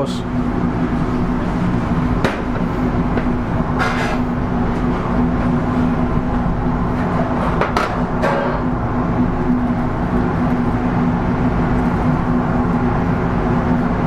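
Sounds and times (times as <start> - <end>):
kitchen machinery hum: 0.0 - 14.0.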